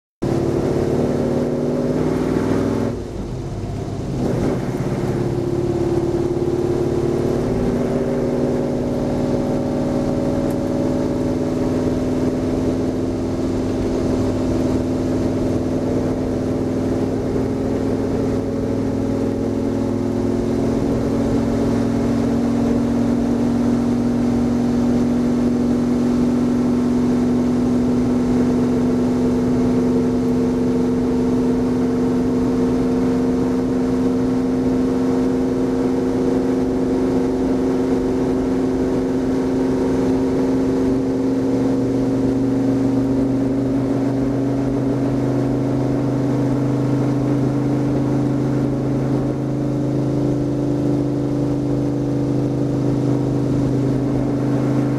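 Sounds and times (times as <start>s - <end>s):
race car engine running hard: 0.2s - 54.9s.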